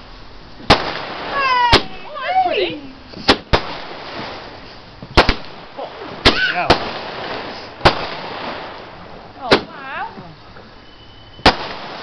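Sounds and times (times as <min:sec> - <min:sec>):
firework hiss: 0:00.0 - 0:12.0
firework shells bursting: 0:00.6 - 0:02.1, 0:03.1 - 0:12.0.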